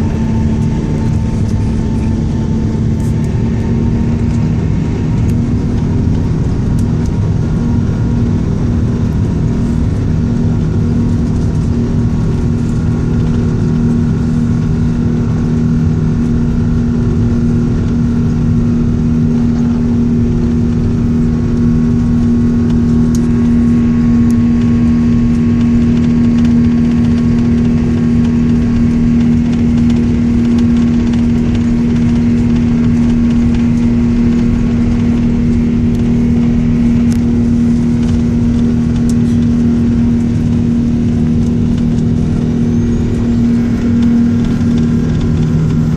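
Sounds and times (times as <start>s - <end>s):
jet engines humming: 0.0s - 45.9s.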